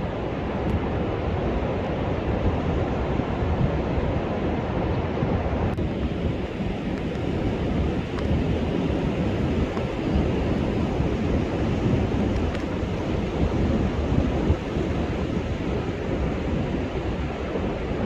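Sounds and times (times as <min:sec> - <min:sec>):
surf breaking on a beach: 0:00.0 - 0:18.0
wind buffeting the microphone: 0:00.0 - 0:18.0.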